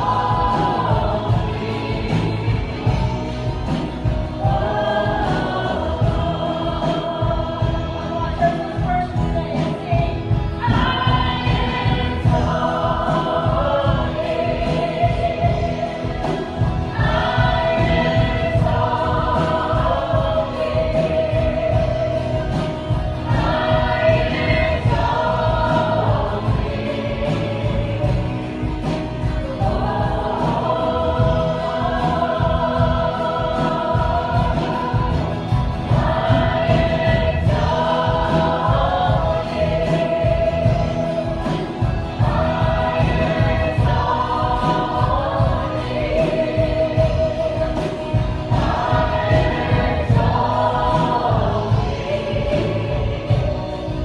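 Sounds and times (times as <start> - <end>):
band with steady beat: 0.0 - 54.0
voices singing: 0.0 - 54.0.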